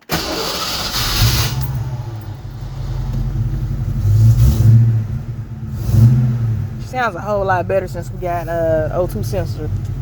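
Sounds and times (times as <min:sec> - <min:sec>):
car engine starting and running: 0:00.0 - 0:10.0.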